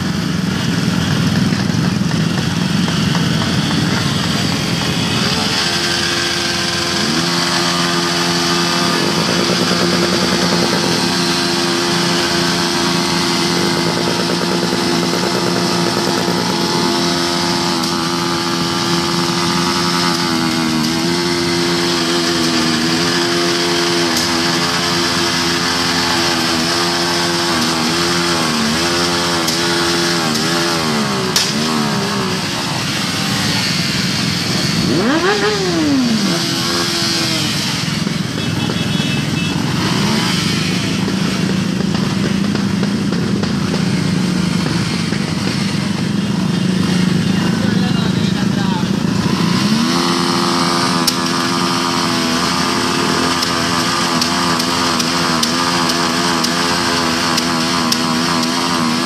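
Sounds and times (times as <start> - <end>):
nearby motorcycle engine running: 0.0 - 59.0
small motorcycles riding together: 0.0 - 59.0.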